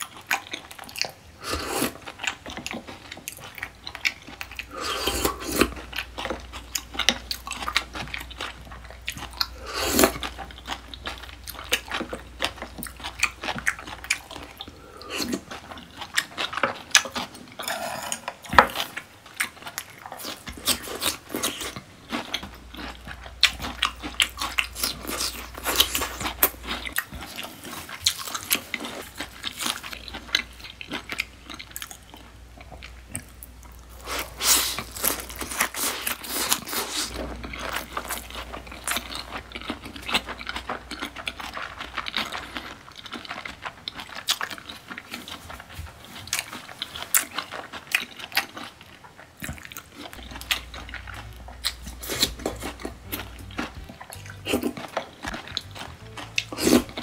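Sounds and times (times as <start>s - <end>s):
crunchy chewing and biting: 0.0s - 57.0s.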